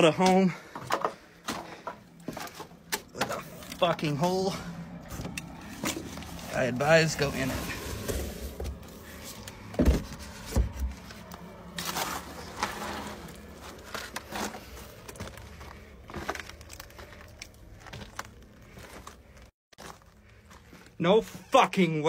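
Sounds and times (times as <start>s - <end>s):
footsteps on dirt and stones: 0.0s - 22.0s
rustling handling noise: 0.7s - 21.6s.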